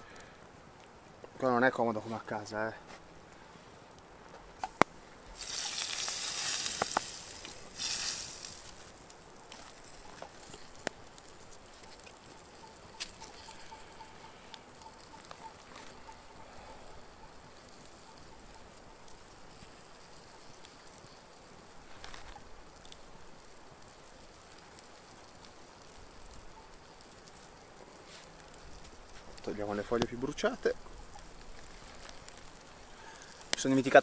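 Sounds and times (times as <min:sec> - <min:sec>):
fire crackling: 0:00.0 - 0:34.0
food sizzling over fire: 0:00.0 - 0:34.0.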